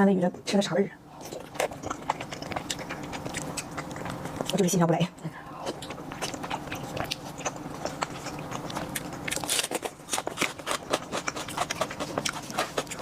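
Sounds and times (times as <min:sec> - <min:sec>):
person chewing food: 0:01.1 - 0:04.7, 0:05.4 - 0:13.0.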